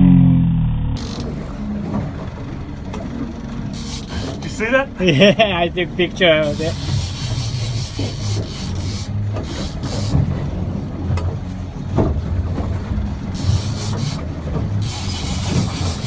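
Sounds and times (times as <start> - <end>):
boat engine running: 1.0 - 16.0
rough water: 1.0 - 16.0.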